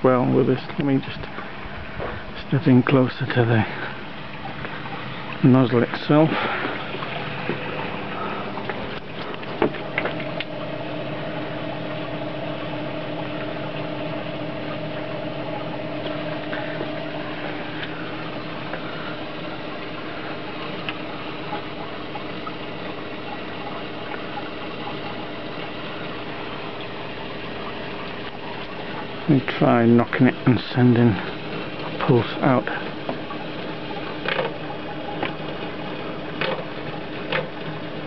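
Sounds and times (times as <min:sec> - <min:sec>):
pump hum: 0:00.0 - 0:38.0
rush of water: 0:00.0 - 0:38.0.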